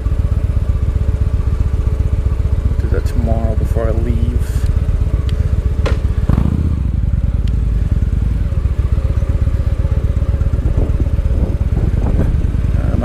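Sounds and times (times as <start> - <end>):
motorcycle engine low pulsing exhaust: 0.0 - 13.0.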